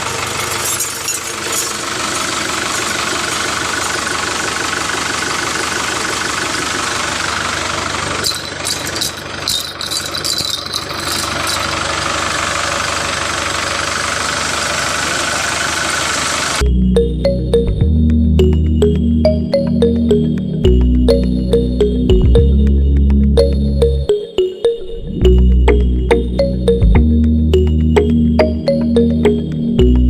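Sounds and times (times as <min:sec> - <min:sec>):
engine idling: 0:00.0 - 0:24.1.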